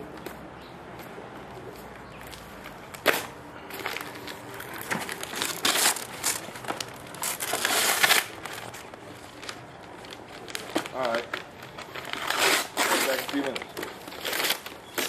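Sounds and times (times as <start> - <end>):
plastic bag crinkling: 2.3 - 15.0.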